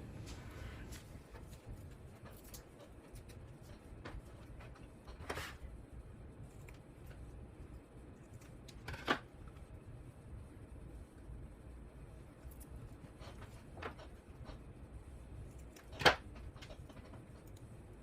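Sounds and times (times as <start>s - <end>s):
faint clicks and rustles: 0.2s - 9.8s, 12.1s - 18.0s.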